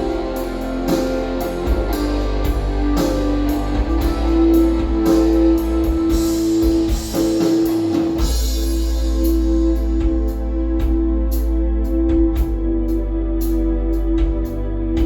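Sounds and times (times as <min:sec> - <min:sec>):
music with guitar drums and bass: 0:00.0 - 0:15.0.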